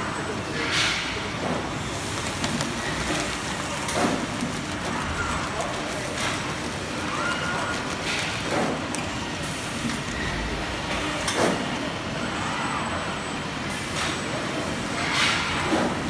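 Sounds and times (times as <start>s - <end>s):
conveyor line running: 0.0s - 16.0s.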